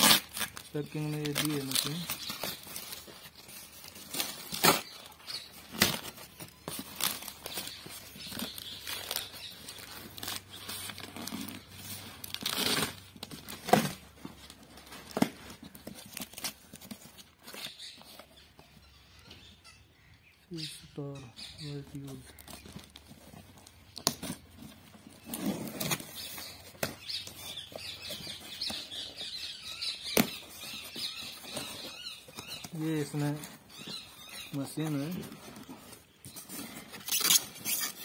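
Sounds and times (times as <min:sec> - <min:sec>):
cardboard tearing: 0:00.0 - 0:18.3, 0:22.1 - 0:38.0
cardboard and plastic crumpling: 0:00.0 - 0:18.5, 0:21.7 - 0:38.0.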